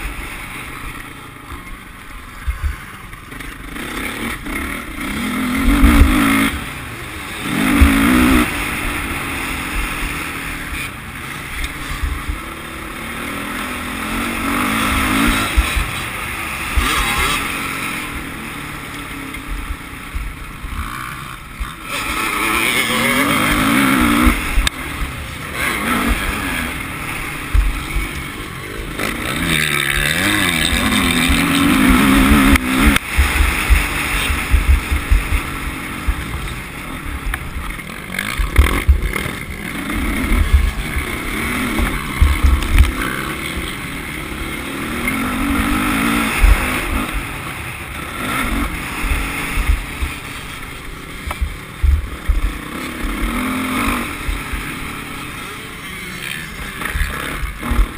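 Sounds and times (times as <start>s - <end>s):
motorbike engine revving: 0.0s - 57.9s.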